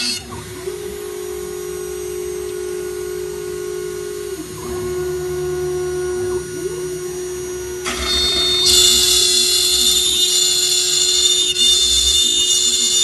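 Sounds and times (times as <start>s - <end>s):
router cutting wood hiss: 0.0s - 13.0s
router spindle whining: 0.0s - 13.0s.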